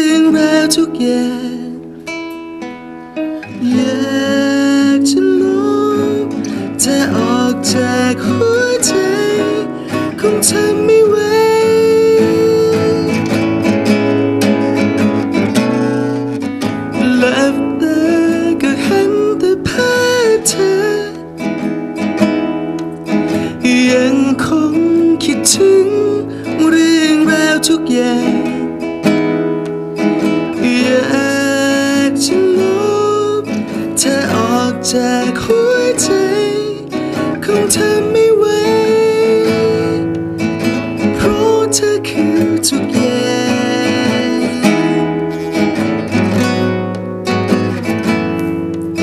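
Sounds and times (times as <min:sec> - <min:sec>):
man singing a slow song: 0:00.0 - 0:02.1, 0:03.4 - 0:13.8, 0:14.5 - 0:21.6, 0:23.1 - 0:29.1, 0:30.2 - 0:46.1
classical guitar: 0:00.0 - 0:49.0.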